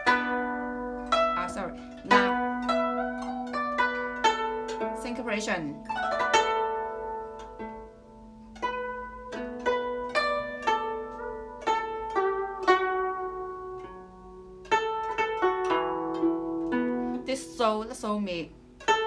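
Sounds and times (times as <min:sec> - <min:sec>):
plucked zither notes: 0:00.0 - 0:19.0.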